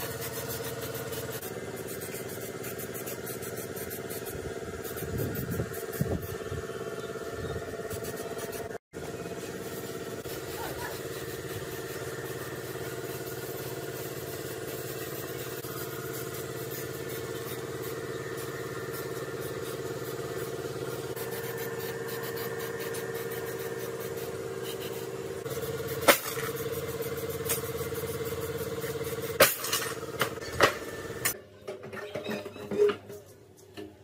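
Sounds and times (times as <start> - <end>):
motor running steadily: 0.0 - 31.4.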